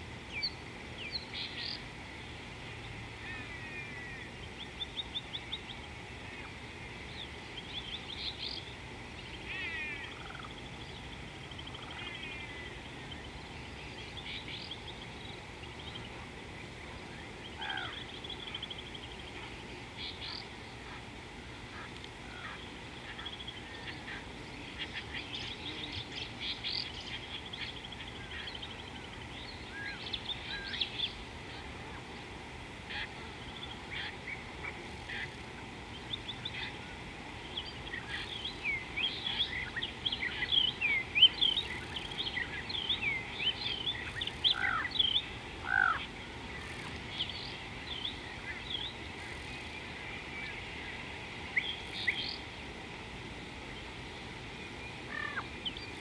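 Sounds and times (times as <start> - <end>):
faint steady hiss: 0.0 - 56.0
wild birds chirping and trilling: 0.0 - 56.0.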